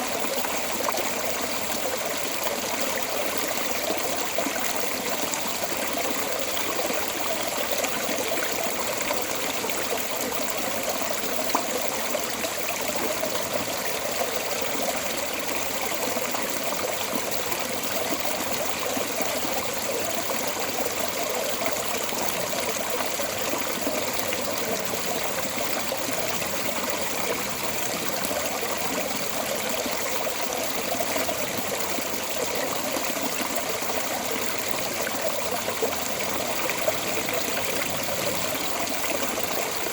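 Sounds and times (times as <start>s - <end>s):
water rushing from storm drain: 0.0s - 39.9s.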